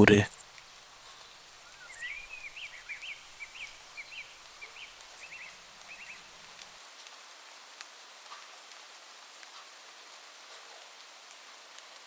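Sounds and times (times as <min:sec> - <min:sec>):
light rain hiss: 0:00.6 - 0:12.0.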